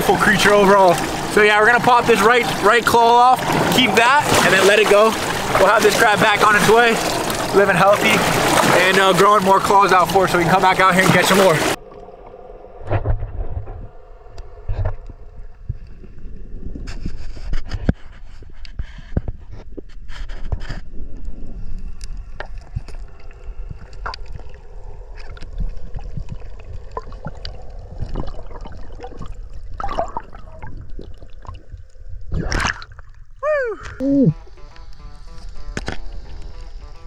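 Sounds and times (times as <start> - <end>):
water sloshing and gurgling: 0.0 - 34.0.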